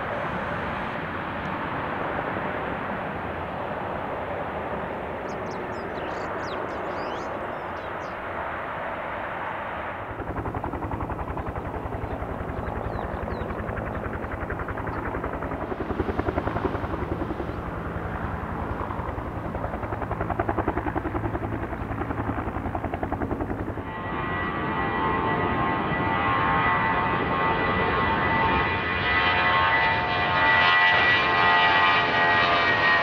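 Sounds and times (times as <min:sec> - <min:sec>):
aircraft engine rumble: 0:00.0 - 0:33.0.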